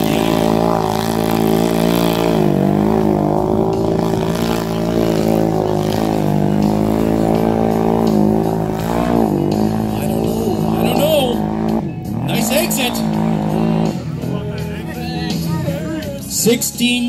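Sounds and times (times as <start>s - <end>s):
atv engine revving hard: 0.0s - 14.4s.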